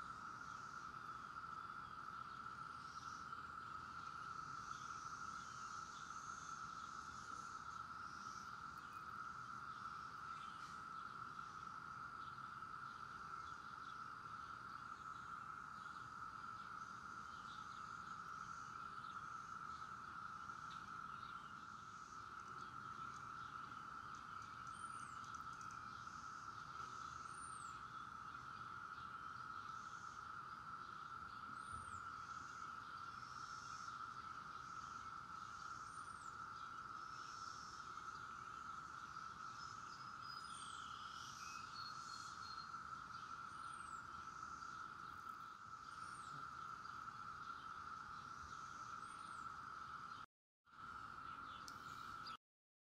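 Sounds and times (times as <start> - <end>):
cicadas droning: 0.0 - 52.4.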